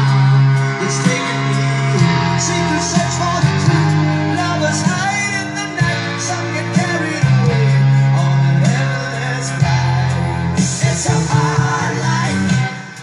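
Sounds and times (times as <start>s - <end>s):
song with singing from record: 0.0s - 13.0s.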